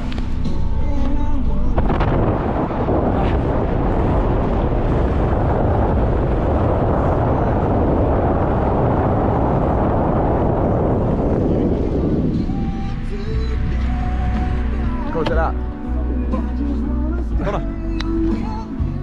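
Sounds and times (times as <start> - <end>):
car road and wind noise: 0.0 - 19.0.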